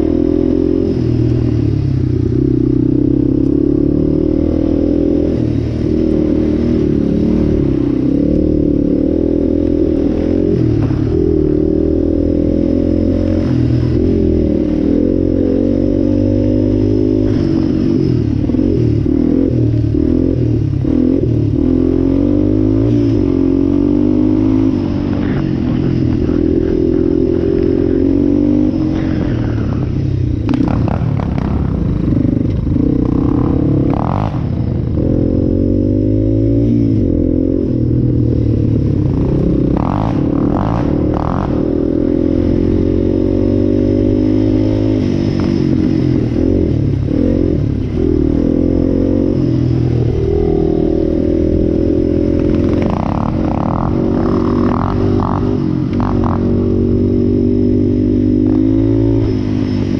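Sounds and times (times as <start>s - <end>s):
quad engine revving: 2.4s - 59.9s.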